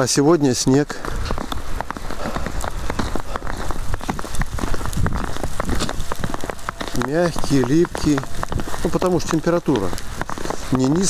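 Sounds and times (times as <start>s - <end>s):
footsteps in wet snow: 0.0s - 11.0s
wind rumbling on microphone: 0.0s - 11.0s.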